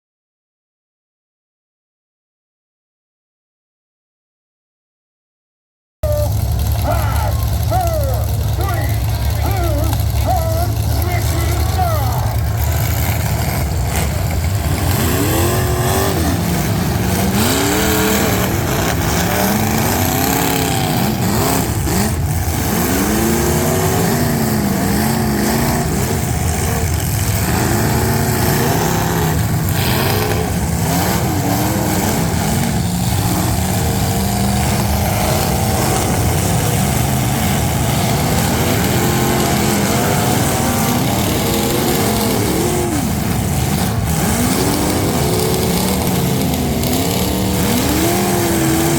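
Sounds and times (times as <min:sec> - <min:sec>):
car engines revving: 0:06.0 - 0:48.9.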